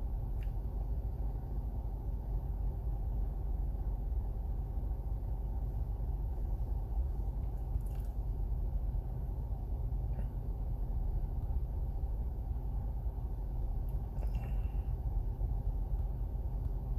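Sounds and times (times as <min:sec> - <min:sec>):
low background rumble: 0:00.0 - 0:16.9.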